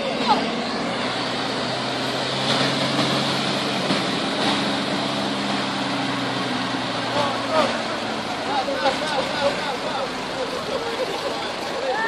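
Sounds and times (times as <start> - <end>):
diesel truck engine droning: 0.0 - 12.0
street noise: 0.0 - 12.0.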